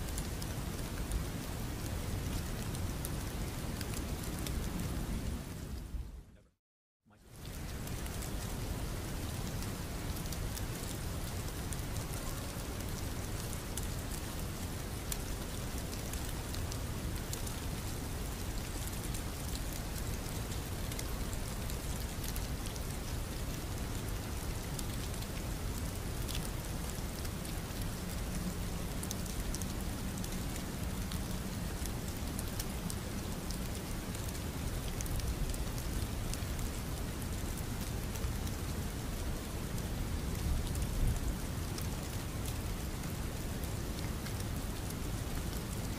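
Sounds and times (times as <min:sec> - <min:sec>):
rainfall hiss: 0:00.0 - 0:06.0, 0:07.2 - 0:45.9
raindrop ticks: 0:00.1 - 0:05.0, 0:07.4 - 0:45.9.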